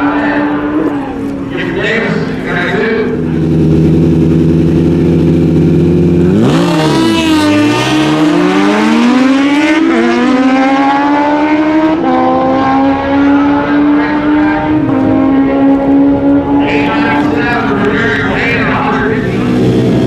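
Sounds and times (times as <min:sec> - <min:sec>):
drag motorcycles revving and launching: 0:00.0 - 0:20.0.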